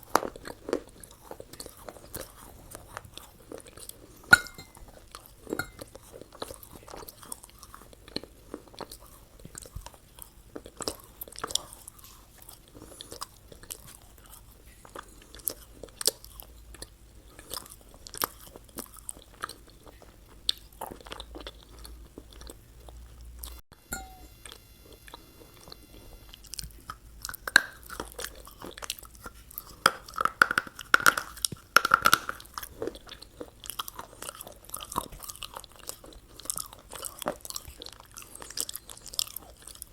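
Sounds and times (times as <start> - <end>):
chewing and crunching food: 0.0 - 23.6, 24.4 - 39.9.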